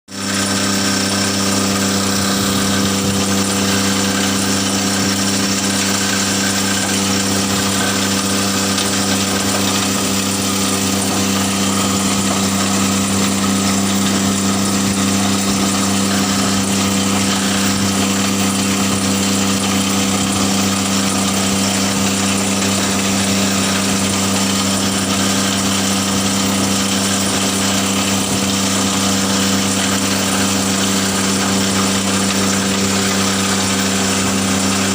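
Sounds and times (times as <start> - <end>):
hammer mill machine humming: 0.1 - 34.9.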